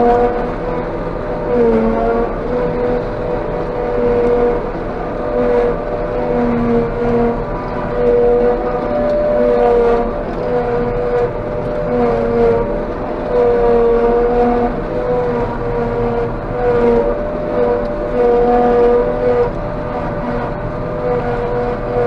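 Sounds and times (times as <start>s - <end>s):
harvester machine hum: 0.0s - 22.0s
wavering high whine: 0.0s - 22.0s.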